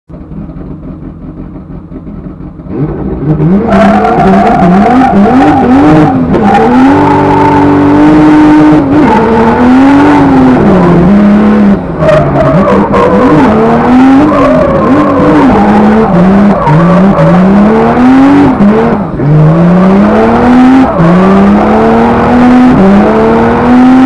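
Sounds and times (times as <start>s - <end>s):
car engine revving: 0.2s - 24.0s.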